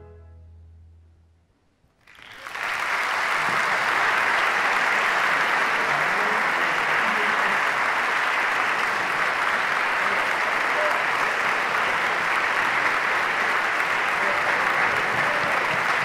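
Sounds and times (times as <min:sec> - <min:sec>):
audience applauding: 0:02.0 - 0:16.0.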